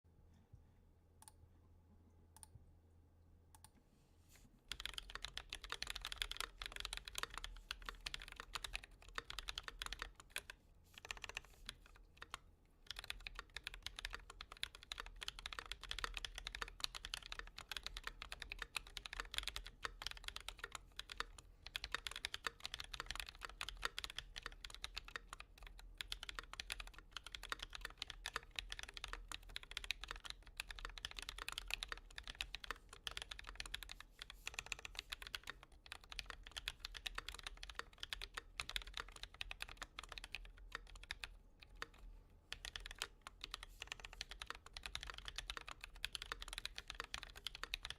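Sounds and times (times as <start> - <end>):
mechanical keyboard typing: 4.7 - 47.9.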